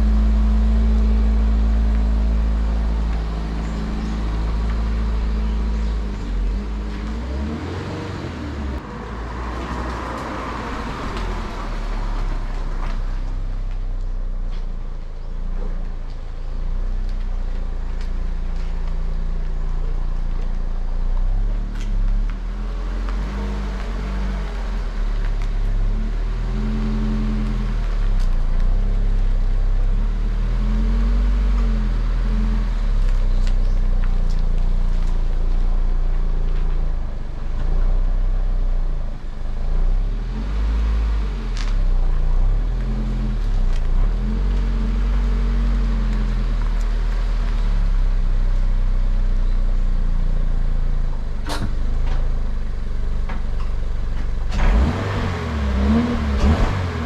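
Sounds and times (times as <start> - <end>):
car engine revving: 0.0 - 13.8, 16.6 - 57.0.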